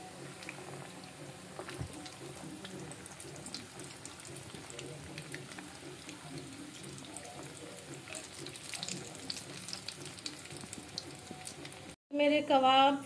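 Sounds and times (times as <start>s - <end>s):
food deep-frying in hot oil: 0.0s - 12.0s
oil crackles and pops: 0.3s - 12.0s.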